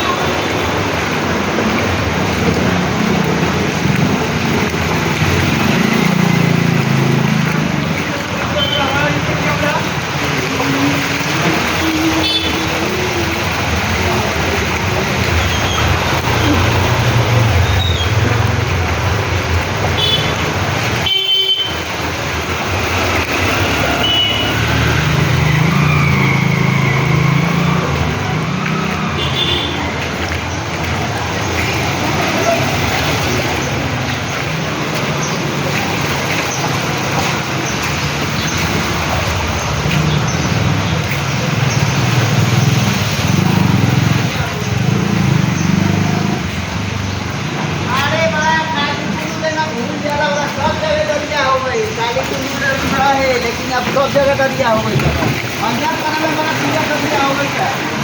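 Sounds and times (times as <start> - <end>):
road traffic: 0.0 - 58.0
vehicle engine humming: 0.0 - 58.0.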